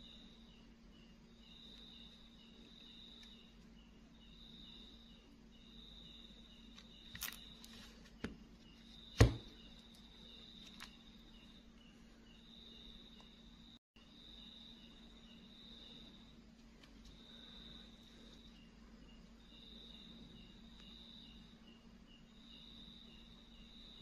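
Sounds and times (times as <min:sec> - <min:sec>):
faint low hum: 0:00.0 - 0:24.0
insects trilling and chirping: 0:00.0 - 0:24.0.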